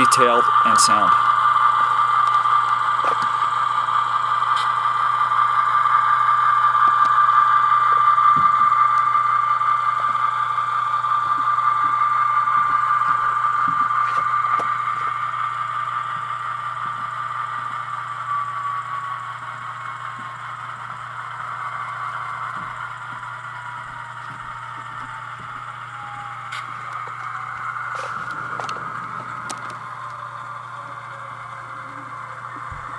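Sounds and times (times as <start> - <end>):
model locomotive diesel engine drone: 0.0 - 32.9
wheels clicking on track: 0.0 - 32.9.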